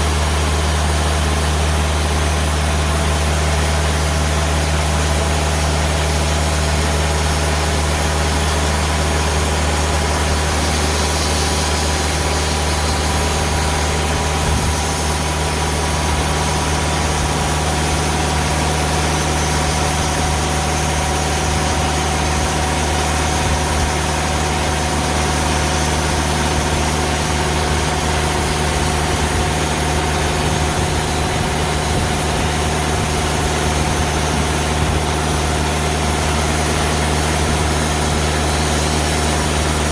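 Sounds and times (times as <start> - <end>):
band saw cutting log: 0.0 - 39.9
diesel engine running: 0.0 - 39.9.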